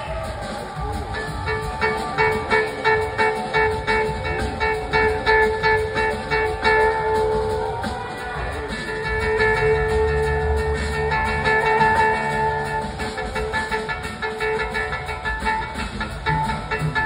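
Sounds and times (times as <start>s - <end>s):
deep bass line: 0.0s - 17.0s
drum hits: 0.0s - 17.0s
held electric guitar tones: 0.0s - 17.0s
live blues rock band: 0.0s - 17.0s.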